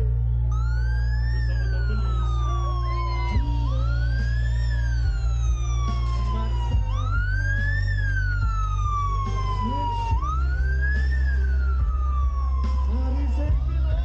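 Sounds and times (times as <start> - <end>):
steady low hum: 0.0 - 12.6
motorcycle siren wailing: 0.0 - 14.0.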